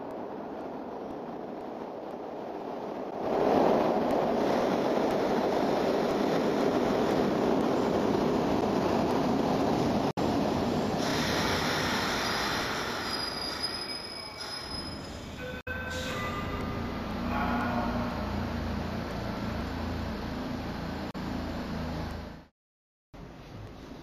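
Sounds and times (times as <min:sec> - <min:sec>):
train rumbling on rails: 0:00.0 - 0:22.5.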